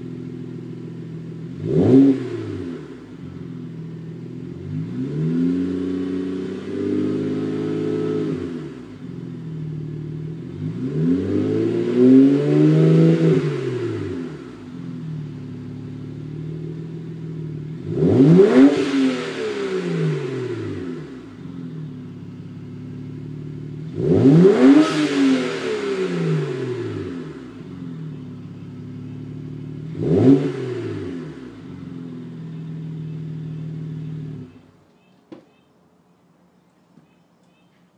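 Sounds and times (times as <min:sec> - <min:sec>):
car engine idling: 0:00.0 - 0:05.1, 0:07.2 - 0:11.0, 0:13.9 - 0:18.4, 0:20.0 - 0:24.8, 0:25.6 - 0:37.9
car engine revving: 0:00.0 - 0:34.7.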